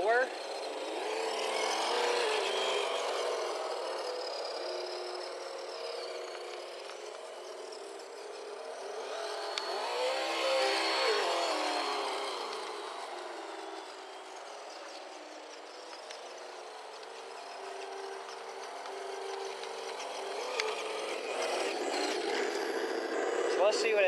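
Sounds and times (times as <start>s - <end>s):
simulated engine idling and revving: 0.0s - 24.0s.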